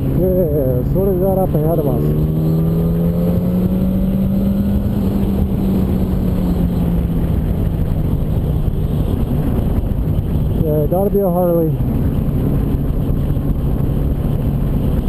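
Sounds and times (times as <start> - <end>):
motorcycle engine running: 0.0 - 15.0
wind and road rumble: 0.0 - 15.0.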